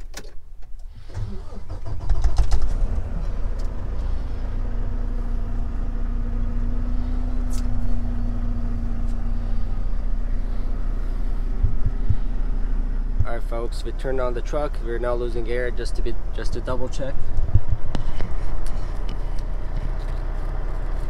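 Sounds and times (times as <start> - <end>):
starter cranking diesel engine: 0.8 - 21.0
diesel engine idling: 0.9 - 21.0.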